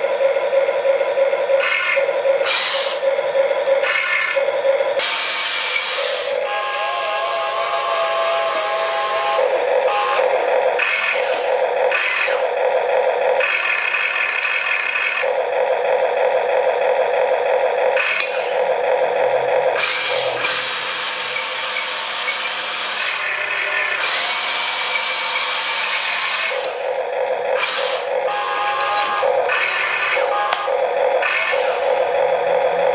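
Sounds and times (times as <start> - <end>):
electric motors whining: 0.0 - 32.9.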